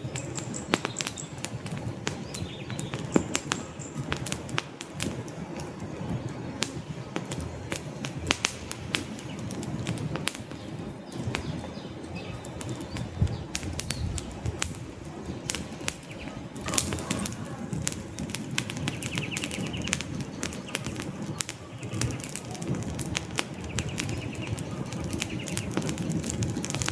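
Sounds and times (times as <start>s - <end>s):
low rumble of burning logs: 0.0s - 26.9s
wood fire crackling: 0.0s - 26.9s.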